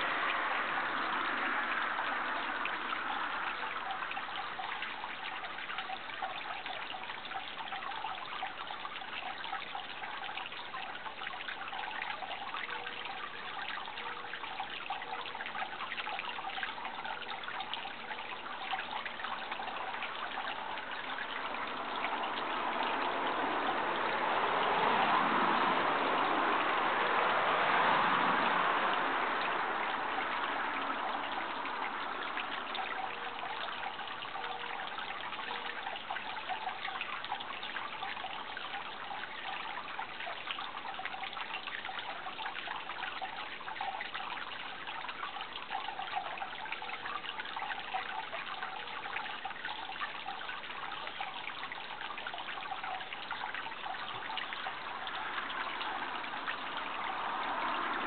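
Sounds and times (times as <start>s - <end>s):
water trickling and babbling: 0.0s - 58.0s.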